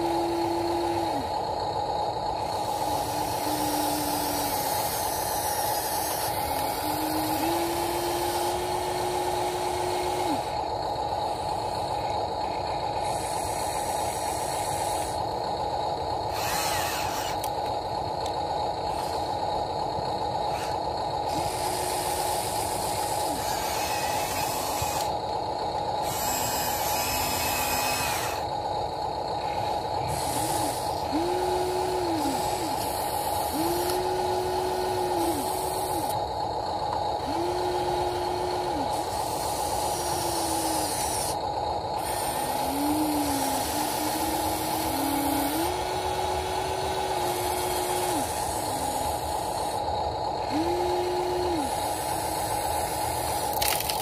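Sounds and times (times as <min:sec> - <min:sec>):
steady high motor whine: 0:00.0 - 0:54.0.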